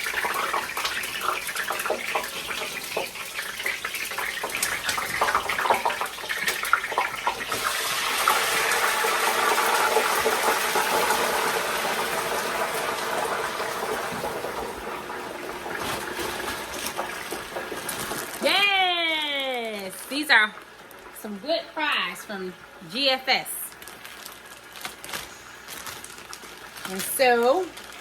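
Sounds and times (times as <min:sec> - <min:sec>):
fries frying in hot oil: 0:00.0 - 0:28.0.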